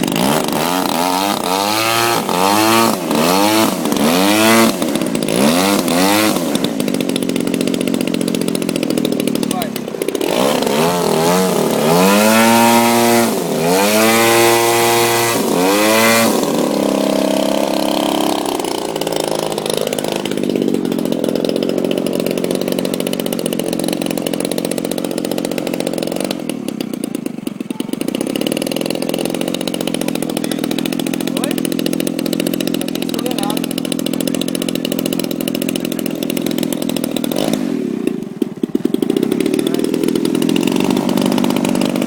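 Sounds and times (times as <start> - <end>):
model airplane engine droning: 0.0 - 42.0.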